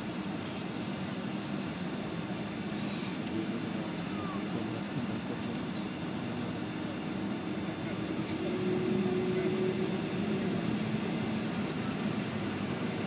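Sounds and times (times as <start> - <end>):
jet engines at taxi power: 0.0 - 13.0
cabin low rumble: 2.5 - 13.0.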